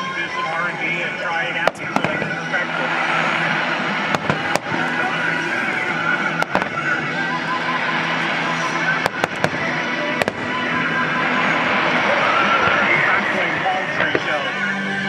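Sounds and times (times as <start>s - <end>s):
background music: 0.0s - 15.0s
crowd noise: 0.0s - 15.0s
fireworks bursting: 1.7s - 15.0s.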